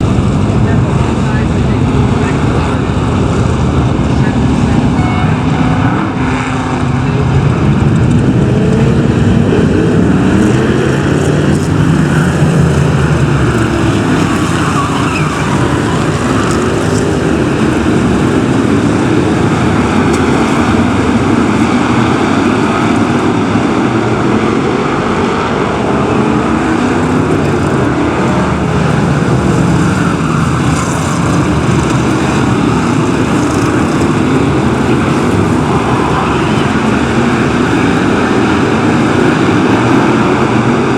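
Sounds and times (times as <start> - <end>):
stock car engines racing: 0.0 - 40.9.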